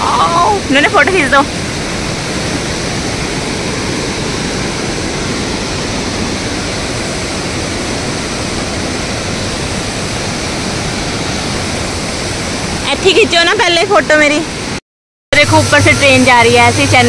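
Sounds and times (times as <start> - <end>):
waterfall rushing: 0.0 - 14.8.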